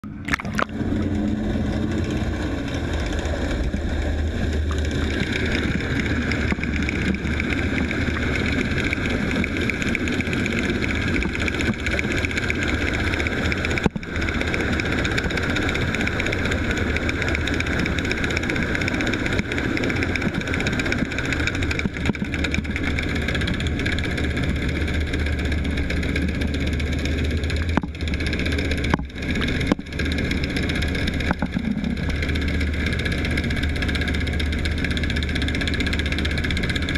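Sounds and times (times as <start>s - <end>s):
underwater boat engine drone: 0.0s - 36.9s.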